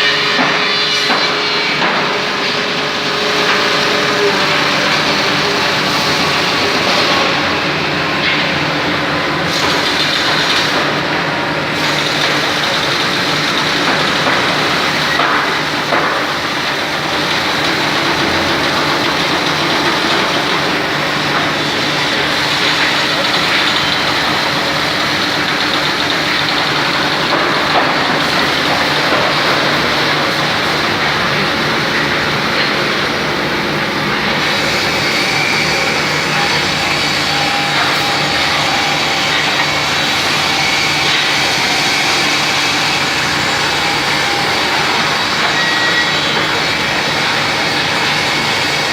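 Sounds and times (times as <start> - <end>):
machine running steadily: 0.0 - 48.9.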